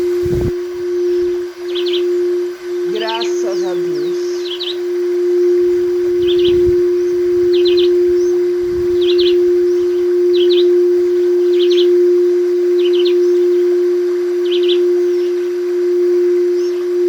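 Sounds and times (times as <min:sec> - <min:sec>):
small bird chirping: 0:00.0 - 0:05.0, 0:05.7 - 0:12.1, 0:12.7 - 0:13.7, 0:14.4 - 0:15.6, 0:16.6 - 0:16.9
singing bowl ringing: 0:00.0 - 0:17.0.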